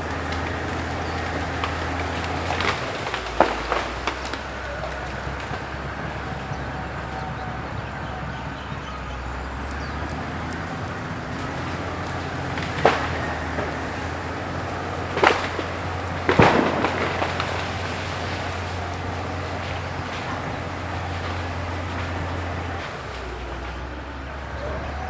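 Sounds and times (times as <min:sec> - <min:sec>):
sharp cracks: 0:00.0 - 0:07.8, 0:09.2 - 0:24.2
diesel engine droning: 0:00.0 - 0:25.0.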